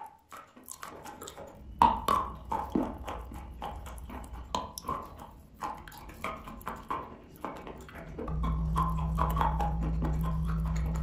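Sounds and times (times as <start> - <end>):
chalk crunching while chewed: 0.0 - 11.0.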